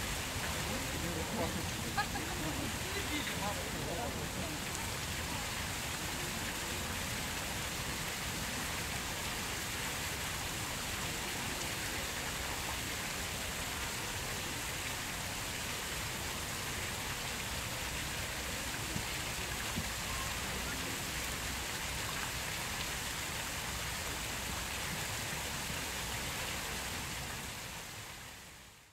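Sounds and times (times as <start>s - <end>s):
fountain water splashing: 0.0s - 28.9s.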